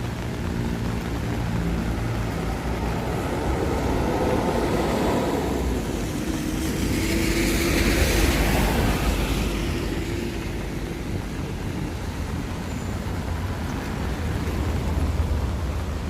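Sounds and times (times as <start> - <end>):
low traffic rumble: 0.0 - 16.0
rain: 0.0 - 16.0
vehicle passing on wet road: 0.0 - 16.0.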